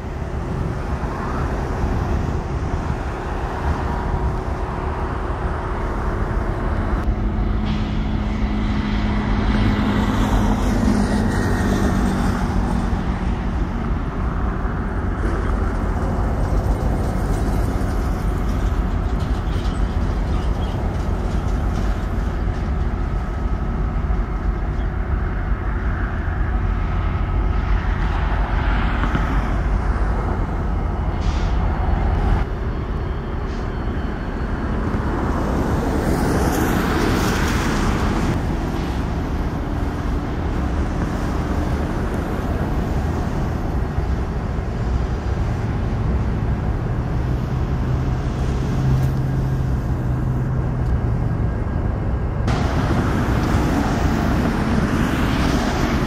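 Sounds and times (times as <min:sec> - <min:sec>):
diesel locomotives running: 0:00.0 - 0:56.0
road traffic rumble: 0:00.0 - 0:56.0.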